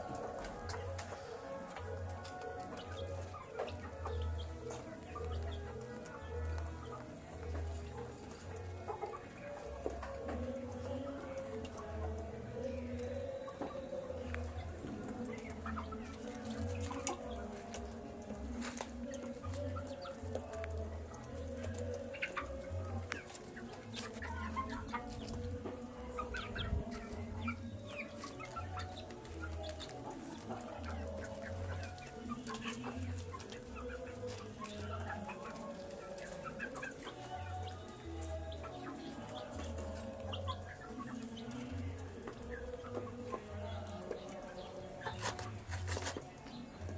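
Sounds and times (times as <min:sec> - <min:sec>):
chicks pecking taps: 0:00.0 - 0:46.9
chicks peeping: 0:00.0 - 0:46.9.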